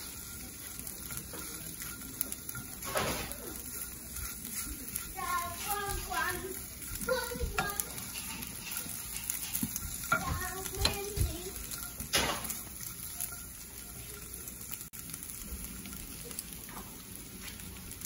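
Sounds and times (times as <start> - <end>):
wooden spatula scraping a pan: 0.0 - 14.9
egg sizzling in a pan: 0.0 - 18.0.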